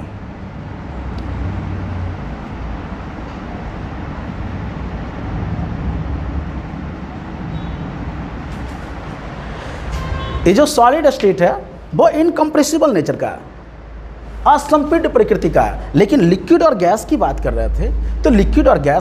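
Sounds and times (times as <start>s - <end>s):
low background rumble and hiss: 0.0s - 19.0s.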